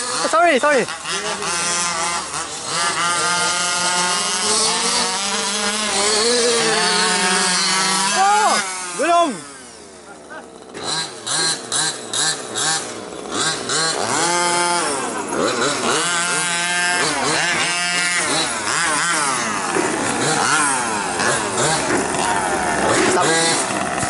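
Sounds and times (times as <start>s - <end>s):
small two-stroke engines revving: 0.0s - 24.0s.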